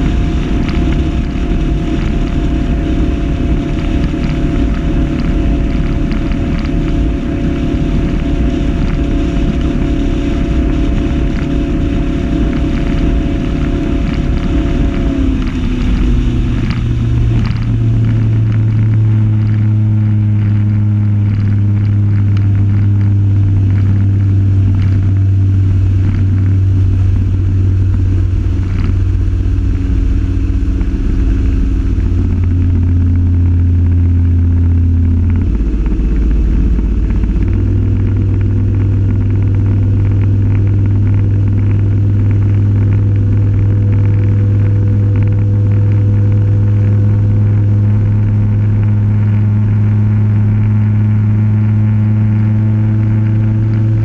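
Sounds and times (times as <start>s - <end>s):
boat motor drone: 0.0s - 54.0s.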